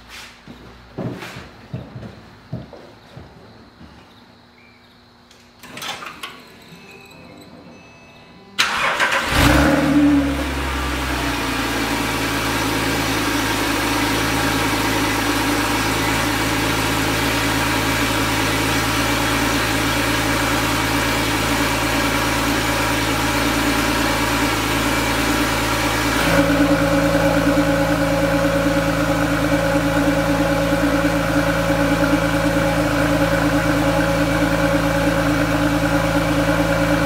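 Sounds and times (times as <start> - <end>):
car engine starting and idling: 5.6 - 37.0.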